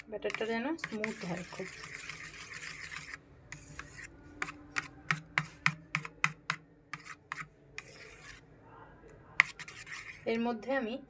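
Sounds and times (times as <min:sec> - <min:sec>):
whisk scraping plate: 0:00.0 - 0:08.4, 0:09.4 - 0:10.6.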